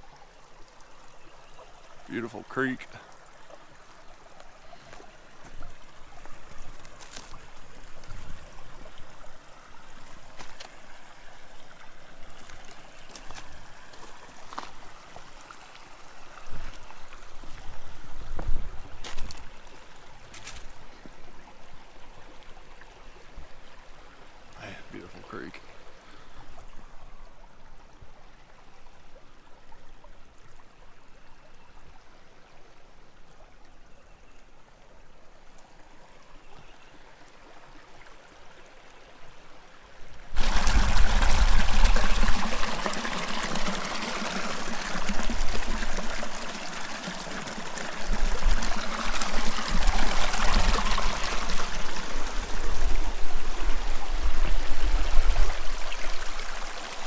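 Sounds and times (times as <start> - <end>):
creek water over rocks: 0.0 - 57.0.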